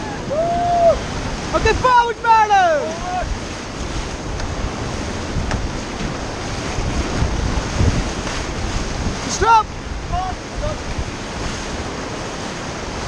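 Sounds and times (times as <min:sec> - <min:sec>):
whitewater rapids roaring: 0:00.0 - 0:13.0
wind buffeting microphone: 0:00.0 - 0:13.0.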